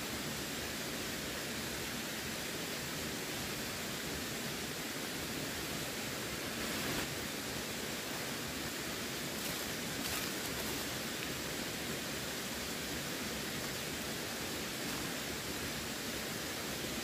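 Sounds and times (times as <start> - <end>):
running water: 1.0 - 17.0.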